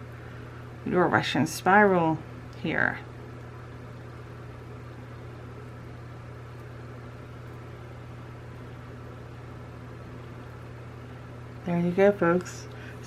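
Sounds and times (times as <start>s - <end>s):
fan running with low hum: 0.0s - 13.0s.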